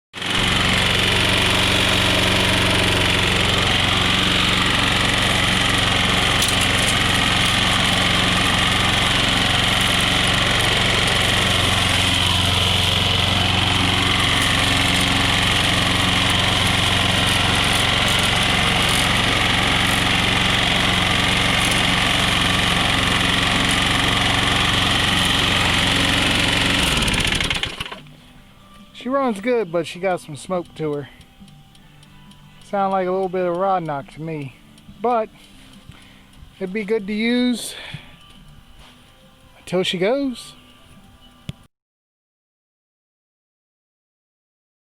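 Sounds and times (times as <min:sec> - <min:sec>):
lawn mower engine running: 0:00.2 - 0:40.5.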